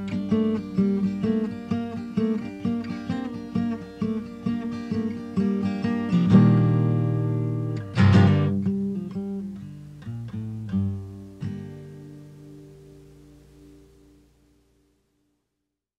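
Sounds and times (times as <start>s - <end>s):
solo acoustic guitar: 0.0s - 15.2s.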